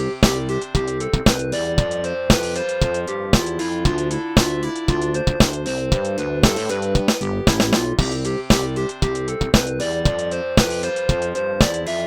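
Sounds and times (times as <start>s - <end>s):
synthesized ringtone melody: 0.0s - 12.0s.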